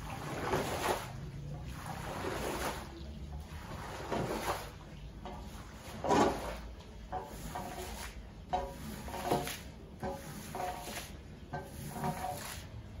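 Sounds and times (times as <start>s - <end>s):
squeegee swishing through wet rug: 0.0s - 13.0s.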